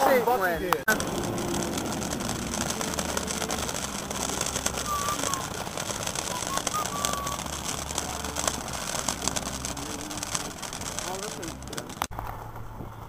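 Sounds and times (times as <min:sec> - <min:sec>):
distant fireworks crackling: 0:00.0 - 0:13.0
fireworks whistles: 0:00.0 - 0:13.0.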